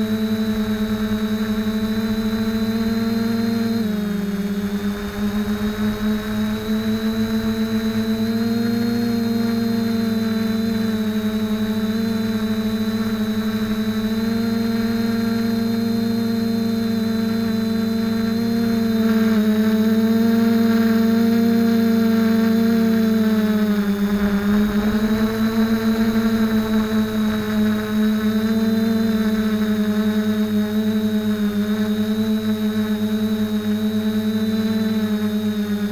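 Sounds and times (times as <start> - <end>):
drone propellers buzzing: 0.0 - 35.9.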